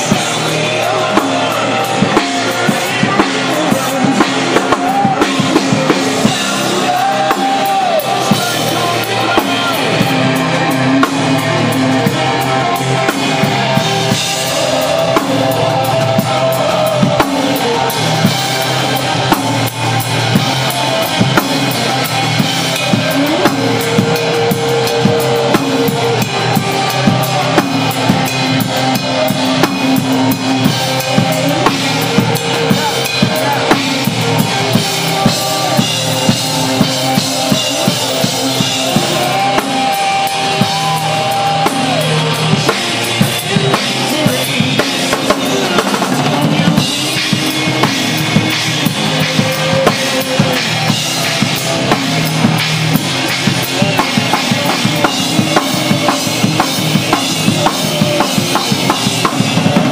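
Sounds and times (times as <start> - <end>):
rock music with drum kit: 0.0 - 59.9.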